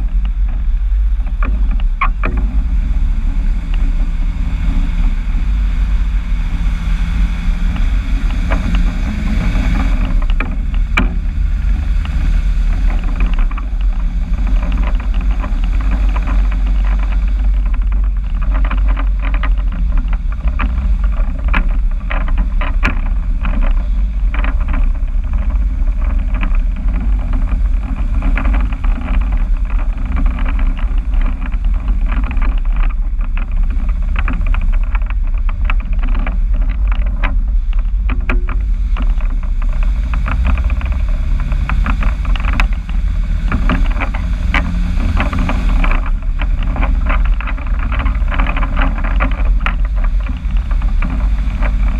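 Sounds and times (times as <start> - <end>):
car engine through exhaust: 0.0 - 51.9.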